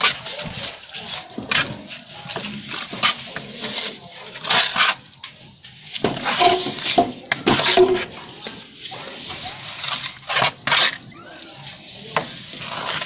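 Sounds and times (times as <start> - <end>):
trowel scraping cement: 0.0 - 13.0.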